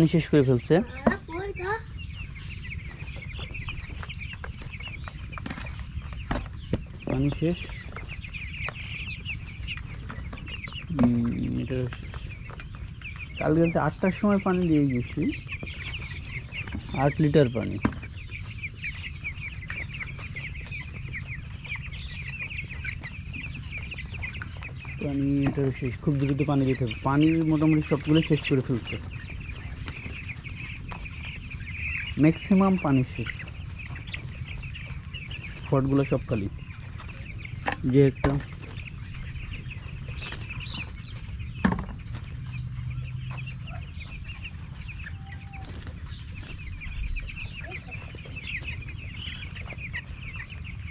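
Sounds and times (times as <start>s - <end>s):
chicks peeping: 0.0s - 50.9s.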